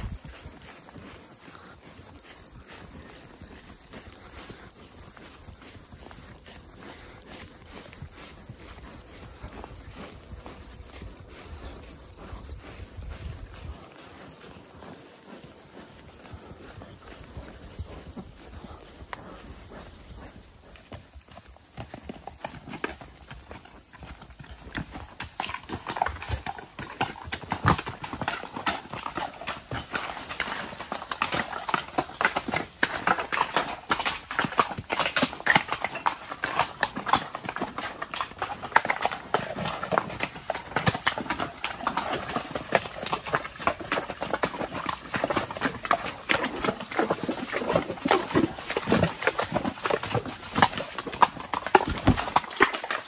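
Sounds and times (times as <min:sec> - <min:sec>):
horse hooves clopping on rocks: 0:00.0 - 0:53.0.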